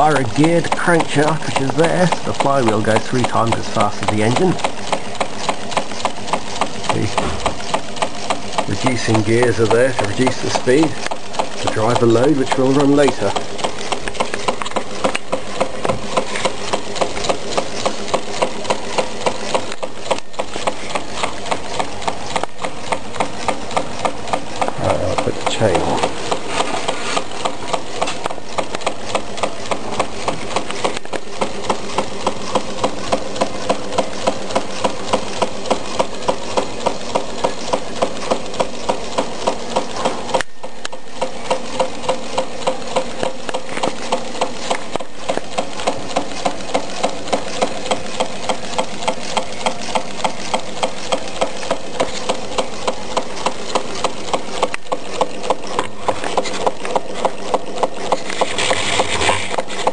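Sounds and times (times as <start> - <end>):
small engine clicking rhythmically: 0.0 - 59.9.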